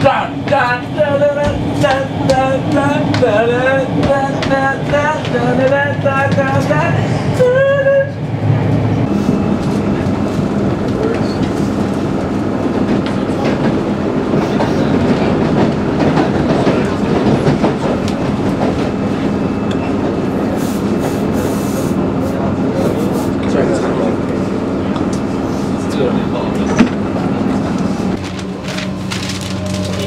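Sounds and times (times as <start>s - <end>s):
train wheels running on rails: 0.0s - 30.0s.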